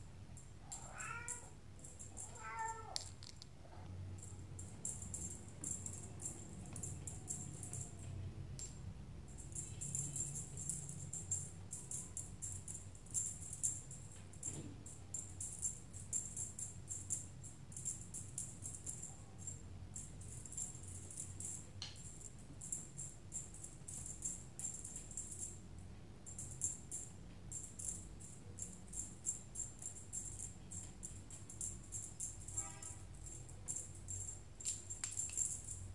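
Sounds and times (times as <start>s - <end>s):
steady low hum: 0.0s - 35.9s
jingle bell shaken: 4.2s - 25.6s, 26.3s - 35.9s.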